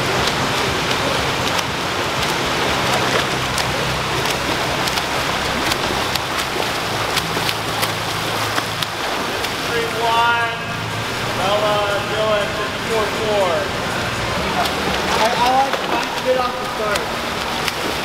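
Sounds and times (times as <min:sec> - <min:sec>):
low steady hum: 0:00.0 - 0:18.0
swimmers splashing: 0:00.0 - 0:18.0.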